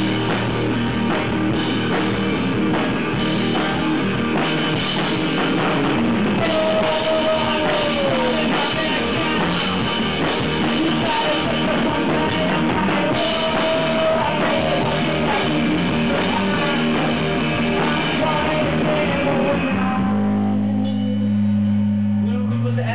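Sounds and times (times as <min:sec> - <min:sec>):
drum kit: 0:00.0 - 0:22.3
rock band playing loud: 0:00.0 - 0:22.3
electric guitar sliding down: 0:00.0 - 0:22.8.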